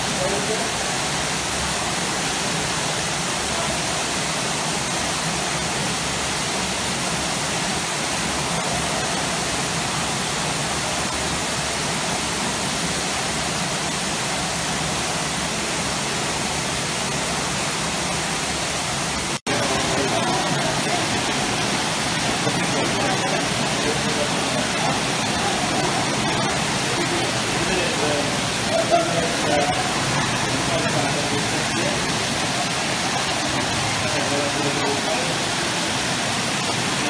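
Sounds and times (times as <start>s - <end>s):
water jets churning: 0.0s - 37.0s.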